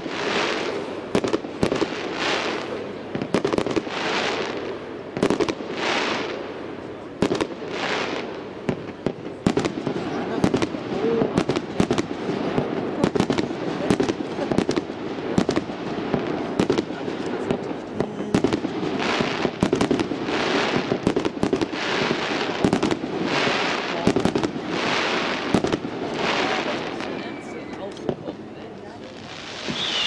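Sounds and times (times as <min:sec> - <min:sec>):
hissing firework bursts: 0:00.0 - 0:28.2, 0:29.0 - 0:30.0
fireworks bursts and bangs: 0:00.0 - 0:30.0.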